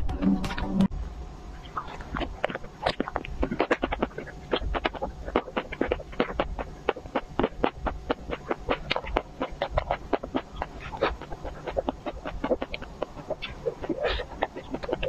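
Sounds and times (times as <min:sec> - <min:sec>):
chewing crunchy chocolate shell: 0:01.8 - 0:15.0.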